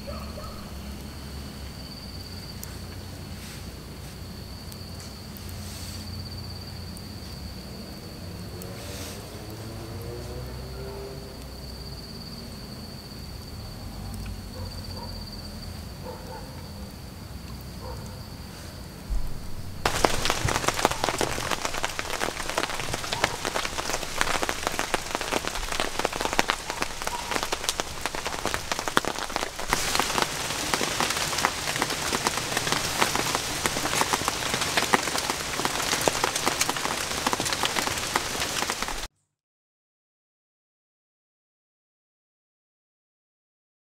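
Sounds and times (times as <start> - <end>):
high insect trill: 0.0 - 39.0
heavy rain: 0.0 - 39.1.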